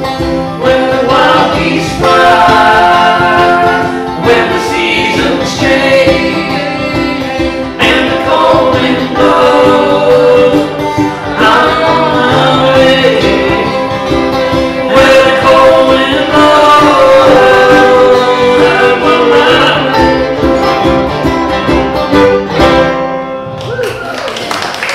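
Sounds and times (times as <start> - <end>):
live band playing and singing: 0.0 - 23.8.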